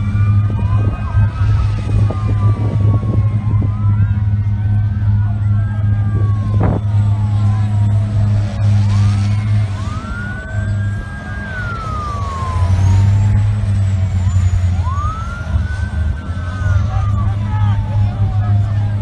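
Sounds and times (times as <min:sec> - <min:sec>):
fire truck siren wailing: 0:00.0 - 0:19.0
steady low rumble: 0:00.0 - 0:19.0.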